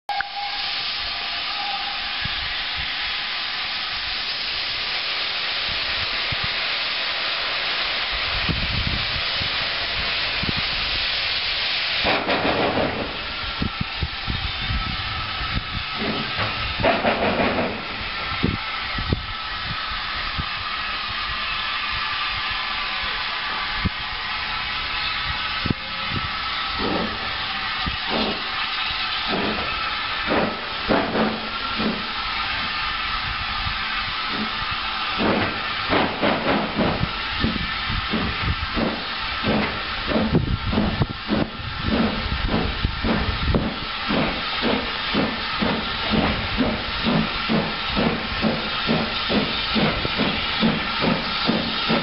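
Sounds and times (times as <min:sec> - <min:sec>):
steam locomotive hissing steam: 0:00.1 - 0:52.0.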